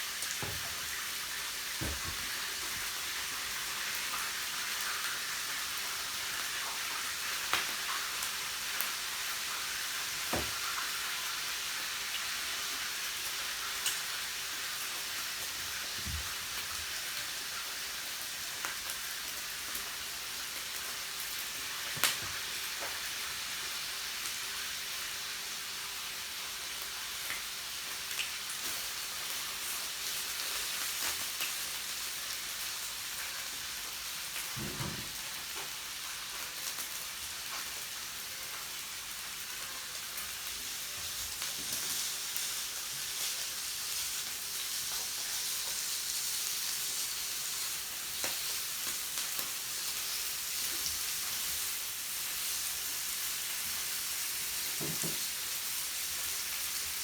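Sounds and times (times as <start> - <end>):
meat sizzling on grill: 0.0 - 57.0.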